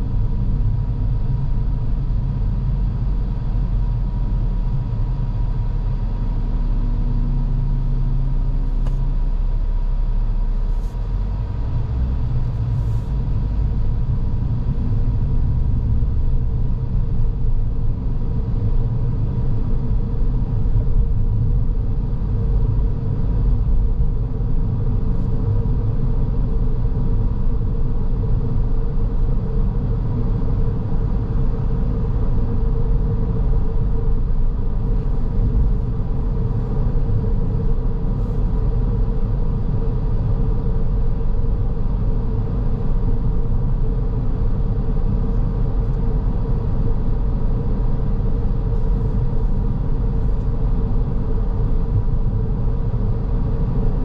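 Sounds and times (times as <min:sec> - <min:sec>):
car engine and tyre rumble: 0:00.0 - 0:54.0
faint steady hum: 0:00.0 - 0:54.0.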